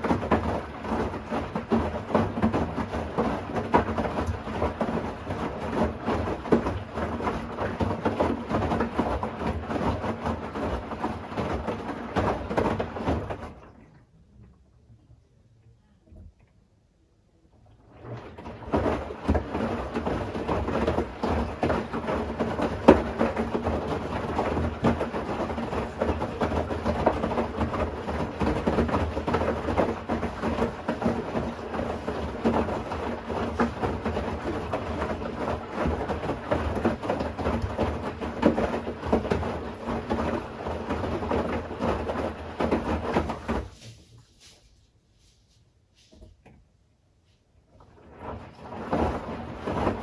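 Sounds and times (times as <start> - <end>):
laundry sloshing in washing machine: 0.0 - 14.8, 17.6 - 50.0.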